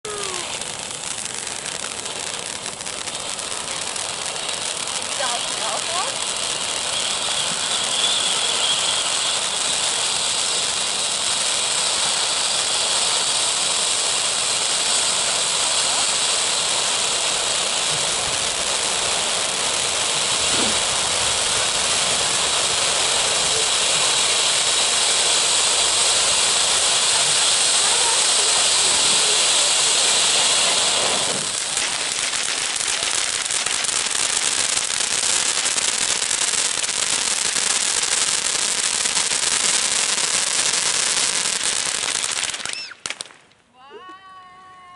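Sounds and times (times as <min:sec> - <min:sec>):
firework fountain hissing: 0:00.0 - 0:44.8
firework dense crackling: 0:00.0 - 0:44.9.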